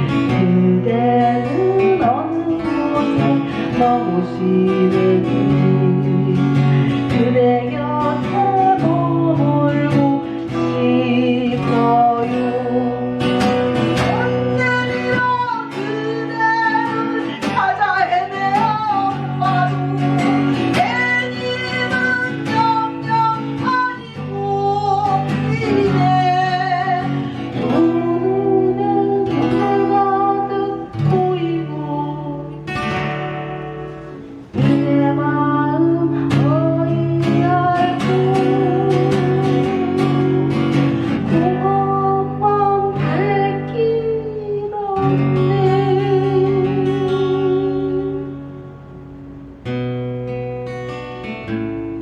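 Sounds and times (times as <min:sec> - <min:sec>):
acoustic guitar plucked: 0:00.0 - 0:52.0.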